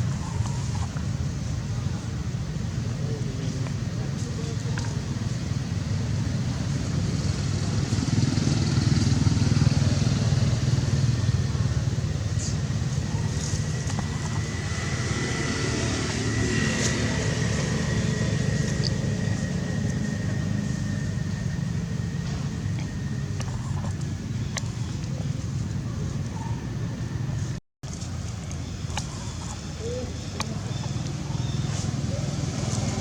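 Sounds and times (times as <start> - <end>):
engine rumble: 0.0 - 33.0.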